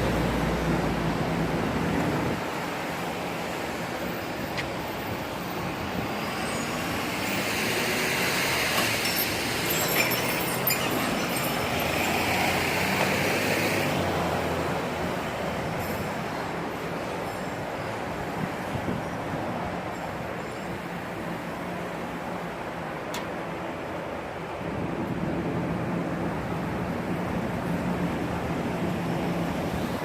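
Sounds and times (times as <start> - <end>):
rushing vehicle noise: 0.0 - 30.0.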